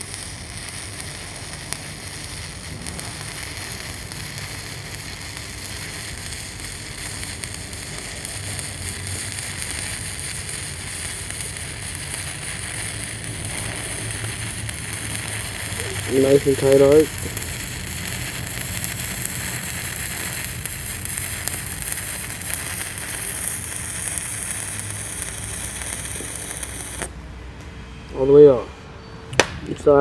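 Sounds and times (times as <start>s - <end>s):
welding arc crackling: 0.0s - 27.2s.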